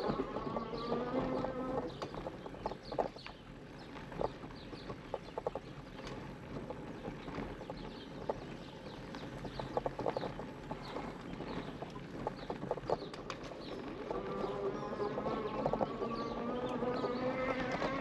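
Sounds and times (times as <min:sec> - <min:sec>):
bike rattling over bumps: 0:00.0 - 0:18.0
birds chirping: 0:00.0 - 0:18.0
tyre noise on dirt: 0:00.0 - 0:18.0.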